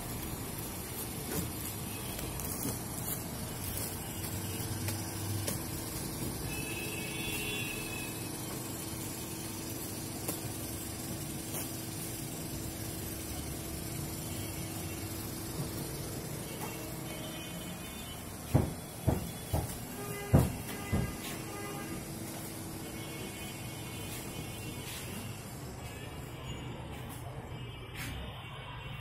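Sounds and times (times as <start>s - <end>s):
mechanical hum and hiss: 0.0s - 29.0s.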